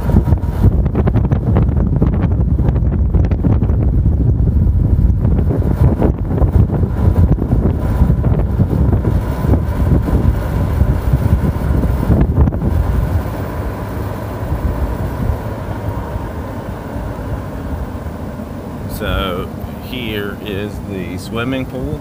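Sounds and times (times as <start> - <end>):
golf cart running: 0.0 - 22.0
wind buffeting microphone: 0.0 - 22.0.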